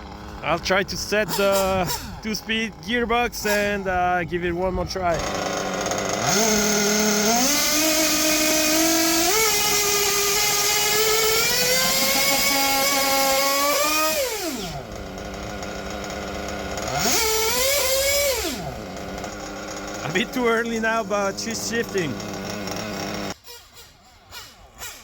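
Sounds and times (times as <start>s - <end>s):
nitro rc car engine revving: 0.0s - 25.0s.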